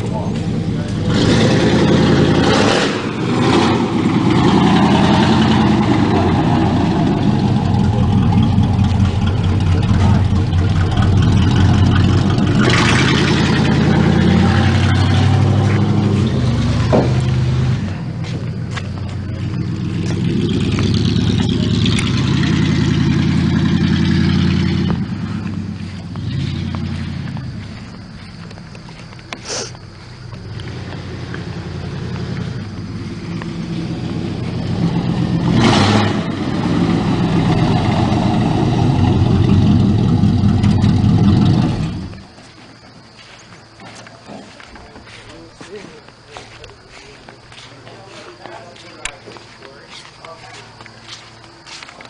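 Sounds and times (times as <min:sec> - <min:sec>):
car engine revving: 0:00.0 - 0:42.4.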